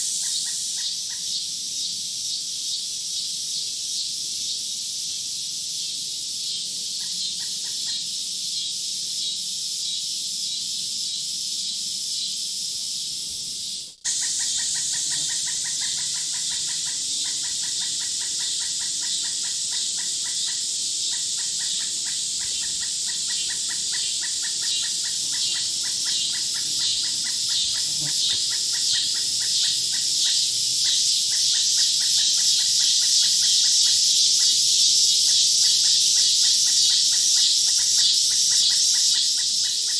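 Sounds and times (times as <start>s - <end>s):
high-pitched insect chorus: 0.0s - 39.9s
rapid pulsing insect call: 0.0s - 39.9s.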